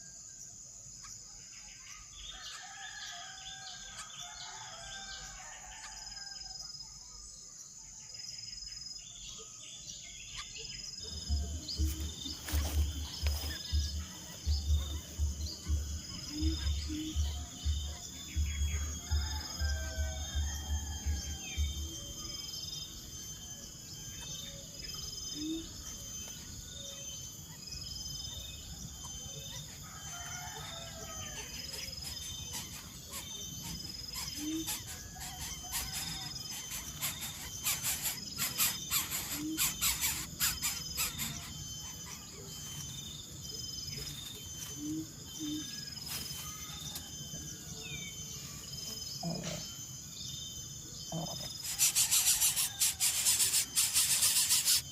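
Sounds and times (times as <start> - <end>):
insects chirping rhythmically: 0.0 - 54.9
bird calls: 9.3 - 50.0, 51.0 - 54.9.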